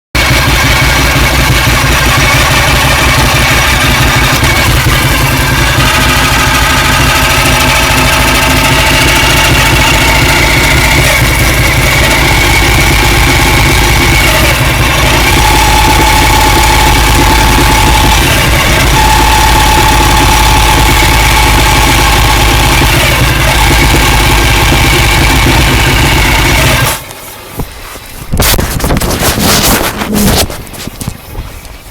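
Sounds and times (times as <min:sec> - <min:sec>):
motorcycle engine running: 0:00.2 - 0:31.9.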